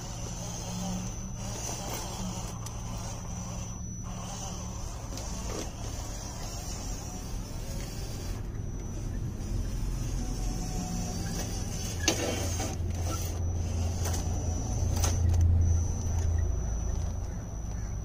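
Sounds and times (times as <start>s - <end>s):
electric motor whirring: 0.0s - 18.0s.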